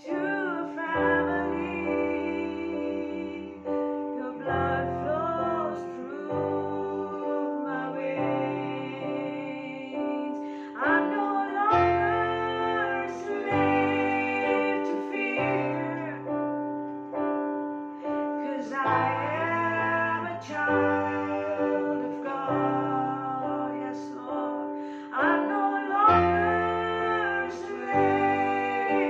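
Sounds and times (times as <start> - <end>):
woman singing: 0.0 - 16.3, 18.2 - 29.0.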